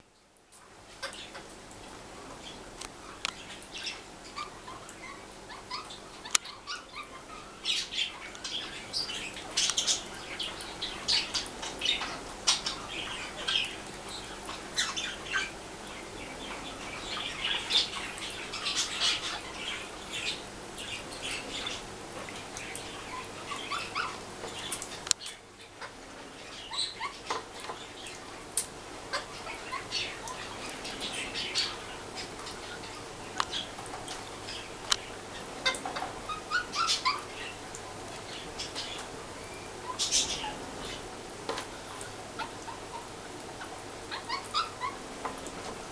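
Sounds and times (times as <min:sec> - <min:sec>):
bird chirping and squawking: 0:03.1 - 0:15.6, 0:16.2 - 0:21.8, 0:22.6 - 0:28.2, 0:29.1 - 0:33.8, 0:34.4 - 0:37.6, 0:38.3 - 0:41.0, 0:41.9 - 0:45.0.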